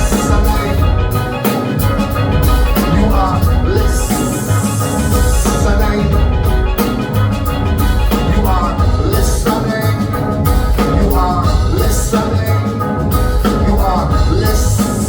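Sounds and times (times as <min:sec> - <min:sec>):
bright pitched notes with slides: 0:00.0 - 0:15.0
drums: 0:00.0 - 0:15.0
heavy bass line: 0:00.0 - 0:15.0
live band playing: 0:00.0 - 0:15.0.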